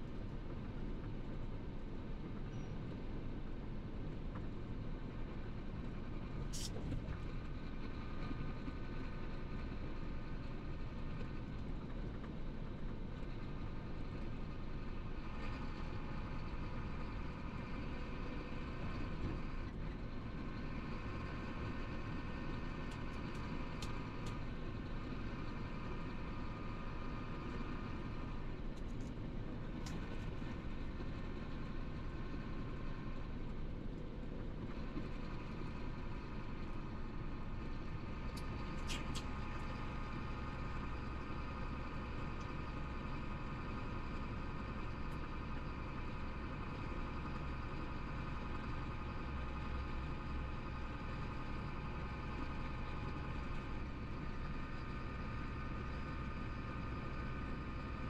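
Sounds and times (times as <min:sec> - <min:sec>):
truck engine and tyre drone: 0:00.0 - 0:58.0.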